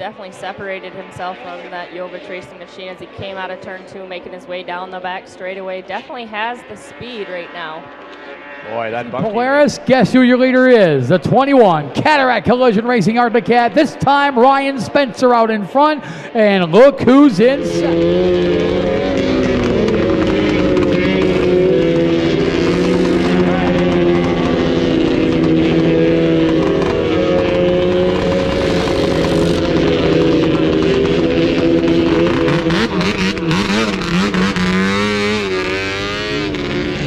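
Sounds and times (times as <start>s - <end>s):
snowmobile engines running: 0.0s - 37.0s
snowmobile revving: 0.0s - 37.0s.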